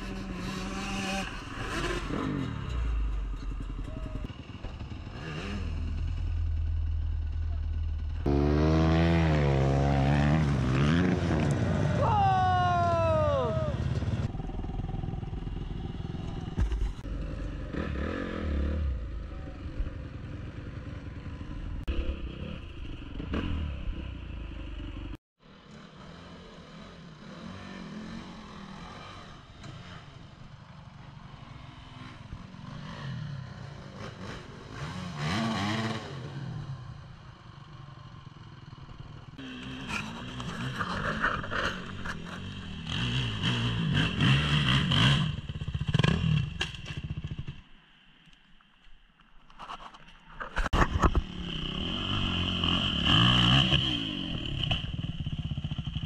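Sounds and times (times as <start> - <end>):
dirt bike engines revving: 0.0 - 47.6, 50.4 - 56.0.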